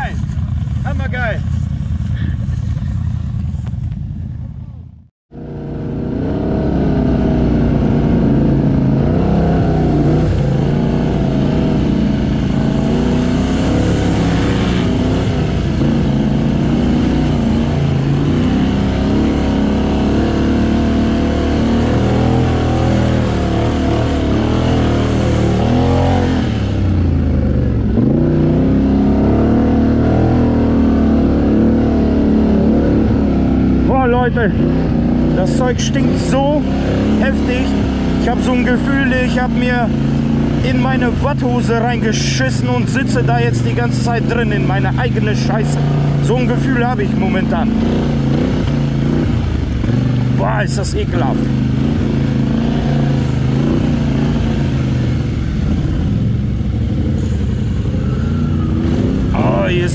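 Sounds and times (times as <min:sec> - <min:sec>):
quad bike engine revving: 0:05.3 - 0:59.9.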